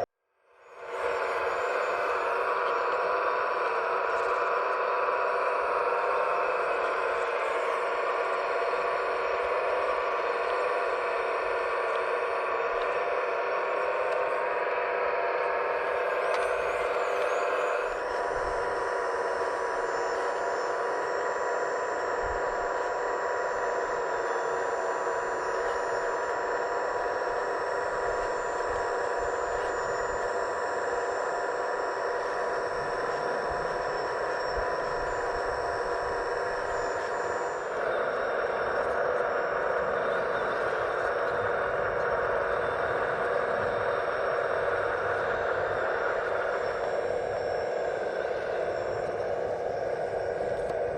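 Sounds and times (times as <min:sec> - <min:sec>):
electric motors whining: 0:00.0 - 0:50.9.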